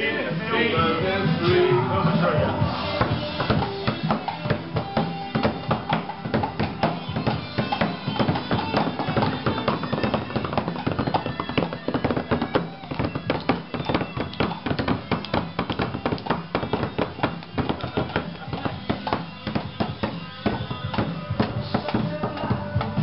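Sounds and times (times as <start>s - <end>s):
music with percussive beat: 0.3s - 23.0s.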